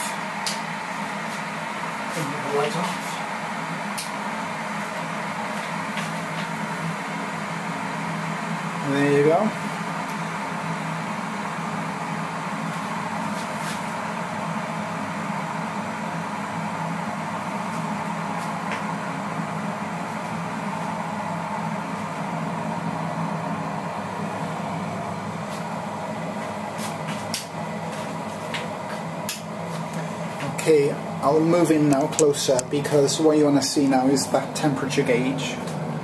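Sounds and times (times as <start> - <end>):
electric kettle heating water: 0.0 - 36.0.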